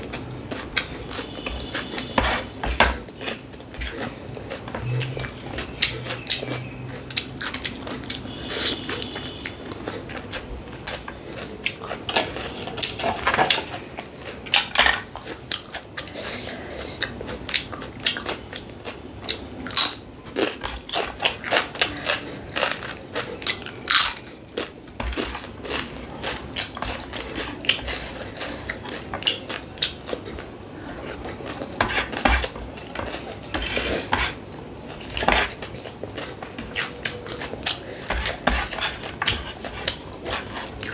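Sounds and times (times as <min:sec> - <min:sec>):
chewing and biting: 0:00.1 - 0:12.9, 0:13.9 - 0:40.9.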